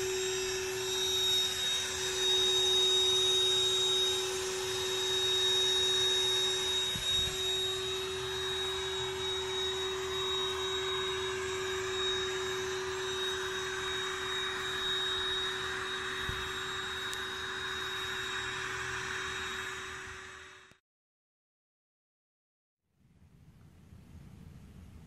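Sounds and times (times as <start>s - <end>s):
electric air pump humming: 0.0s - 20.8s.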